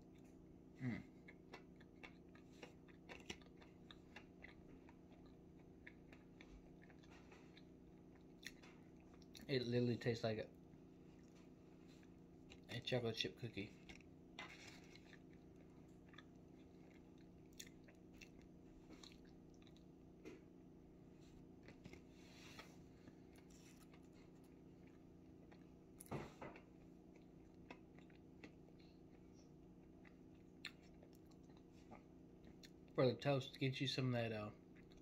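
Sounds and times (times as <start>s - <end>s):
chewing pastry: 0.0s - 33.6s, 34.5s - 35.0s
low room hum: 0.0s - 35.0s.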